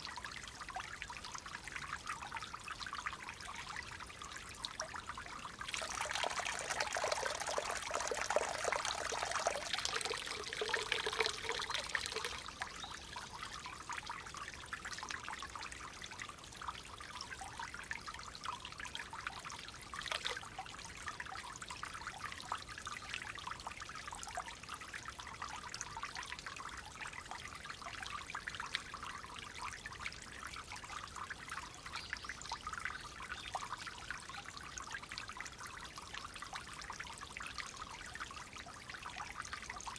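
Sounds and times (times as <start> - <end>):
stream water trickling and gurgling: 0.0 - 39.9.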